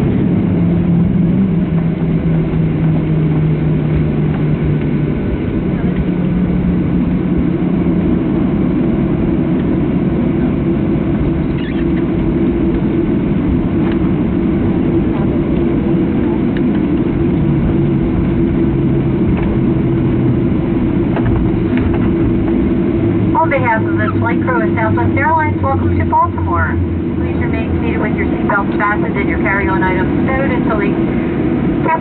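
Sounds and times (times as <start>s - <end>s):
jet airliner cabin hum: 0.0s - 32.0s.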